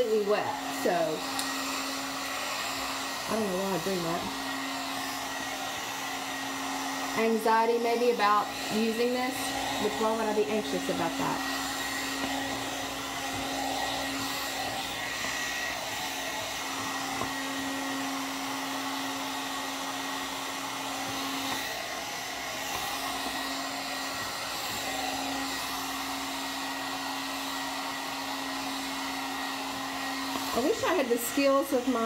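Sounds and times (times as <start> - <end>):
hair dryer blowing air: 0.0 - 32.0.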